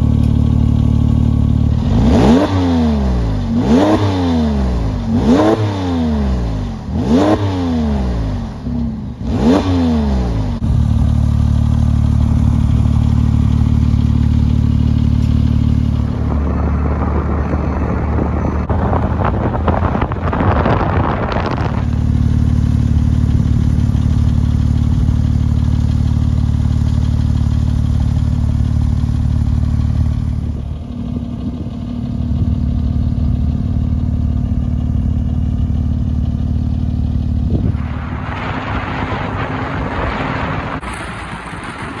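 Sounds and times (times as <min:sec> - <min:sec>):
car exhaust drone: 0:00.0 - 0:42.0
wind and road rush: 0:00.0 - 0:42.0.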